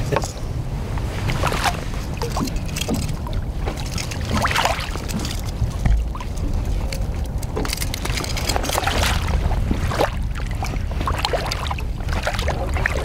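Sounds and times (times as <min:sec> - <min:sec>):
steady low rumble: 0:00.0 - 0:13.0
water splashing and sloshing: 0:00.0 - 0:13.0
fish thrashing in water: 0:01.4 - 0:13.0.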